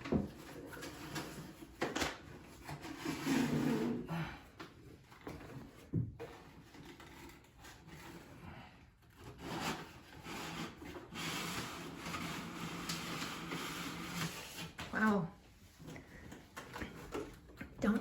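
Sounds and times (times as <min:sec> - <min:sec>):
rubbing and scraping handling noises: 0:00.0 - 0:18.0.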